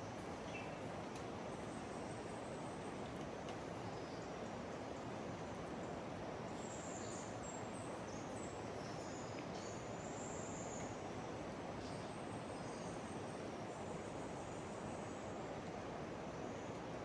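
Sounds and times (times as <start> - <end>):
outdoor hiss: 0.0 - 17.0.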